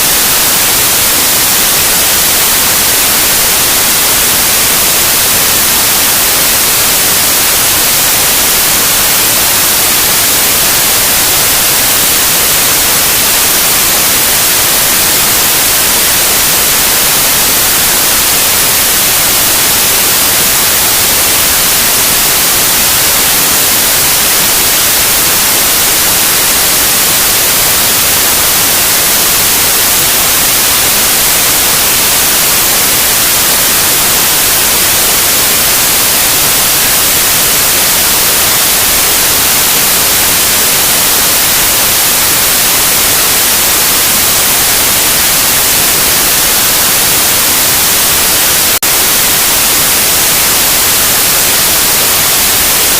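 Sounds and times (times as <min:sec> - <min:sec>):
loud white noise: 0:00.0 - 0:52.9.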